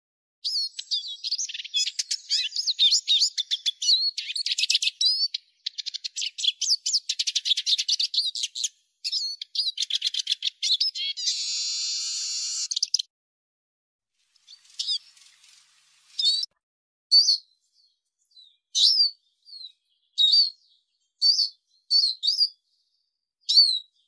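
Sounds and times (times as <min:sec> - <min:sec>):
bird twittering and trilling: 0:00.4 - 0:13.1, 0:14.2 - 0:24.0.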